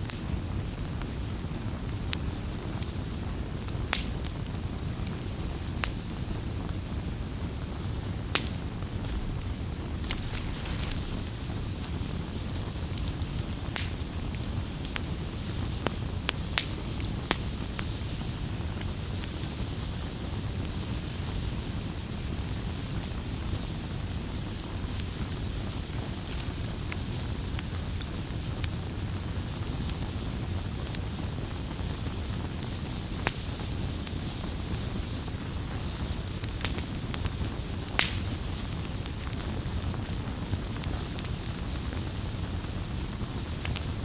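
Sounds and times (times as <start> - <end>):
campfire crackling: 0.0 - 44.0
fire pops: 0.0 - 44.0.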